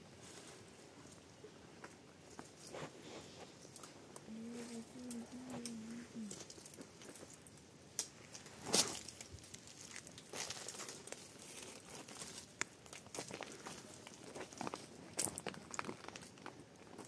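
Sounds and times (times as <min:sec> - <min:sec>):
crinkling handling noise: 0:00.1 - 0:17.0.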